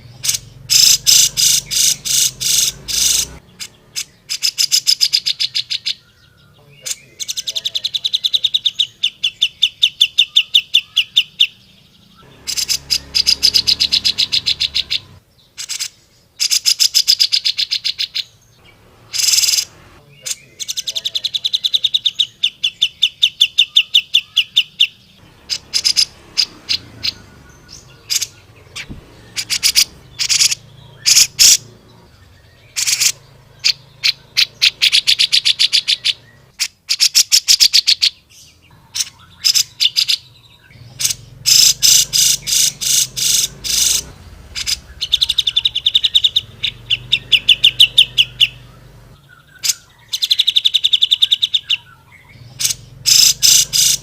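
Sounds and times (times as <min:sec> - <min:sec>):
bulbul singing fast chattering trills: 0:00.0 - 0:54.0.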